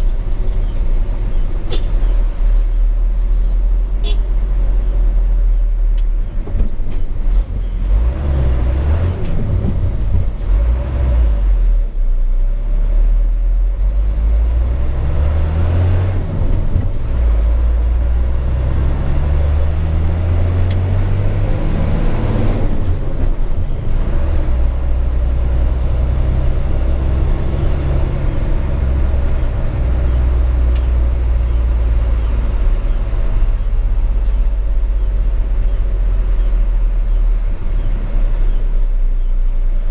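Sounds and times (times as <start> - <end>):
truck diesel engine accelerating: 0.0 - 39.9.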